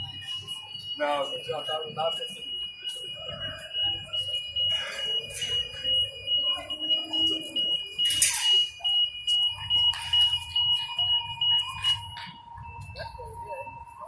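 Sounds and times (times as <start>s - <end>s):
high-pitched electronic alarm tone: 0.0s - 14.0s
lower alarm tone: 0.0s - 14.0s.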